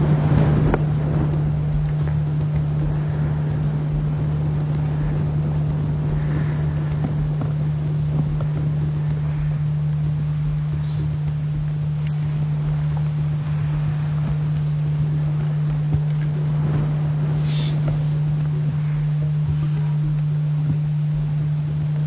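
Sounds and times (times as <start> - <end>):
steady low drone: 0.0 - 22.0
wind on microphone: 0.0 - 22.0.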